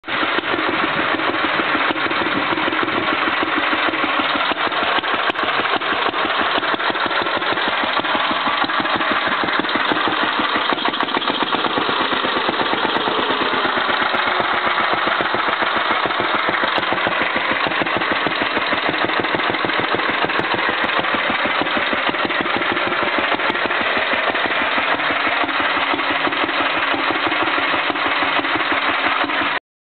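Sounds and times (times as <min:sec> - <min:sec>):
stationary engine running: 0:00.0 - 0:29.6.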